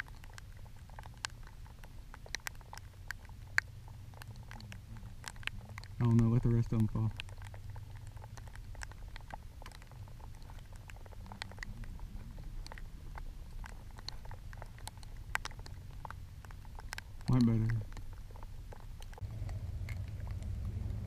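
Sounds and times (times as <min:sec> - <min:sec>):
low background rumble: 0:00.0 - 0:21.0
raindrops tapping on camera: 0:00.0 - 0:21.0.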